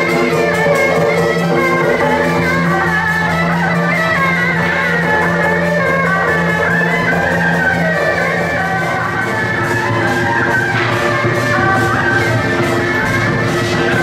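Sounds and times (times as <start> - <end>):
sustained notes: 0.0 - 14.0
wavering melody: 0.0 - 14.0.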